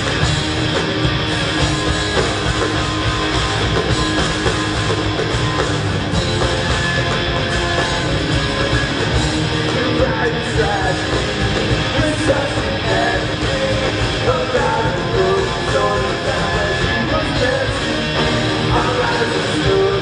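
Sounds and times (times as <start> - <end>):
drums: 0.0 - 20.0
electric guitars: 0.0 - 20.0.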